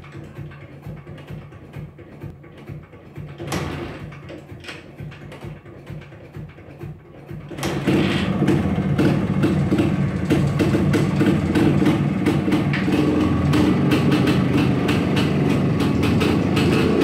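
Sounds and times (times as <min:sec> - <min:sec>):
motorcycle kick-starting: 0:00.0 - 0:17.0
two-stroke engine running: 0:00.0 - 0:17.0.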